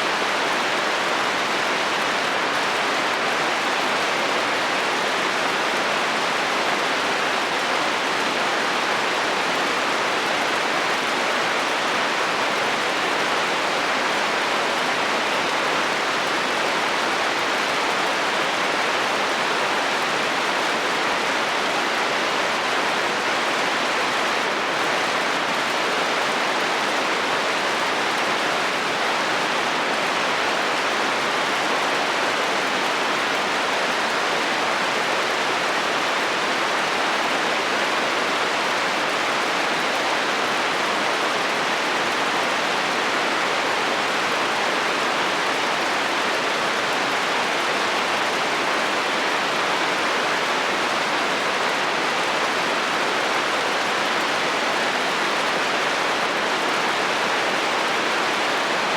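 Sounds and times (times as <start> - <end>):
heavy rain on a metal roof: 0.0 - 58.9.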